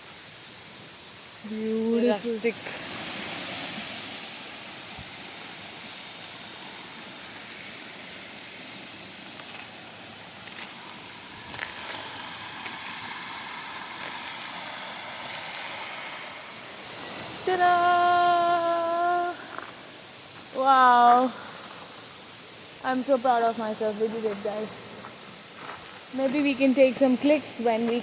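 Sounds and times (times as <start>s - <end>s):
forest insects droning: 0.0s - 28.0s.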